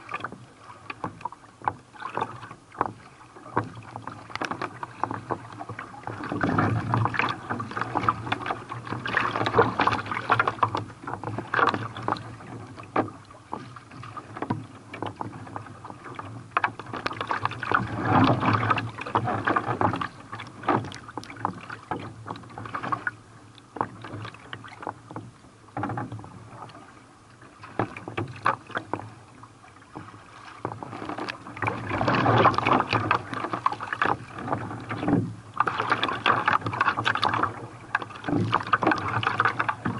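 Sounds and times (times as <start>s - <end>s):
paddle slapping water: 0.0s - 39.9s
water splashing and sloshing: 0.0s - 39.9s.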